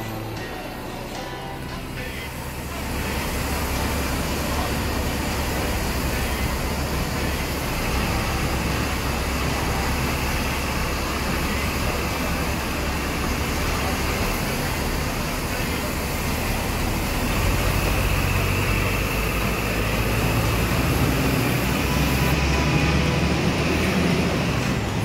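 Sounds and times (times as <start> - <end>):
bus engine low rumble: 0.0 - 25.0
street and traffic noise: 0.0 - 25.0.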